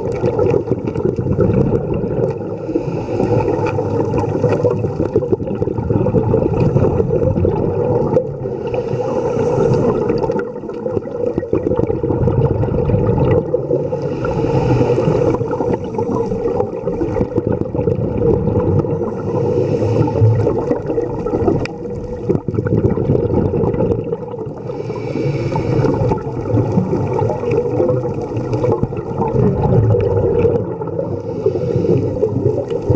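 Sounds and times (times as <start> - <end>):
diver's bubbles gurgling: 0.0 - 32.9
muffled underwater rush: 0.0 - 32.9.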